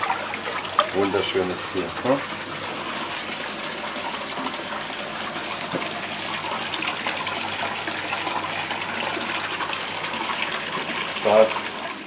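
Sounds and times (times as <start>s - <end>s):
water gushing into tanks: 0.0s - 12.0s.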